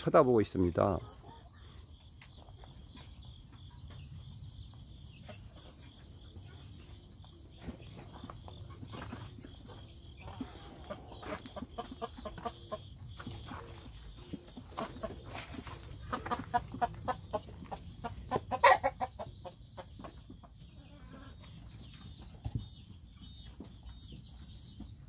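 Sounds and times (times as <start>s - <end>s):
crickets chirring: 0.0s - 25.0s
chicken clucking: 0.1s - 25.0s.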